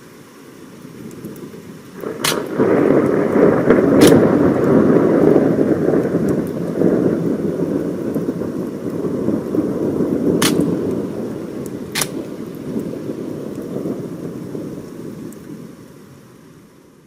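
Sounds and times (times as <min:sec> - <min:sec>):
rain: 0:00.0 - 0:17.0
thunder rumbling: 0:00.8 - 0:16.2.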